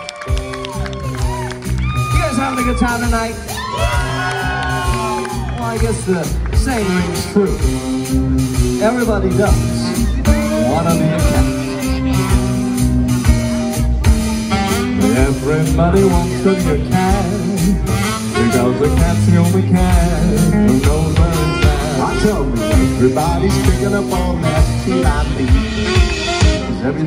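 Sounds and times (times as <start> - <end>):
bass line: 0.0 - 27.0
drums steady beat: 0.0 - 27.0
swing band music: 0.0 - 27.0.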